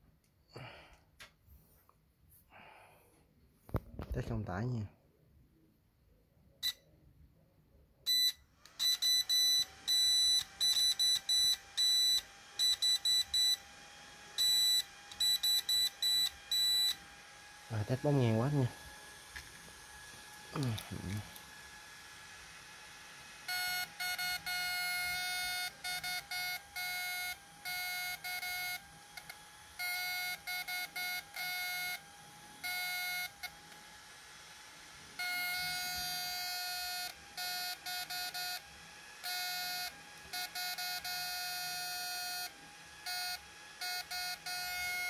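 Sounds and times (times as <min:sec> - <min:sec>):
inverter high-pitched whine: 0:08.1 - 0:45.0.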